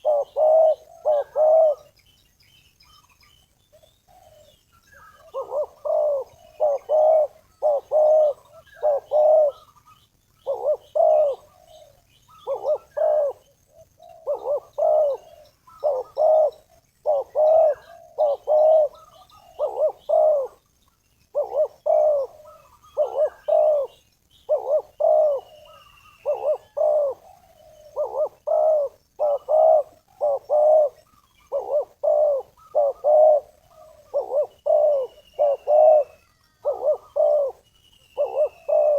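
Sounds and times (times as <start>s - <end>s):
dove cooing: 0.0s - 2.0s, 3.8s - 20.6s, 21.3s - 38.9s
faint high bird chirps: 0.0s - 38.9s.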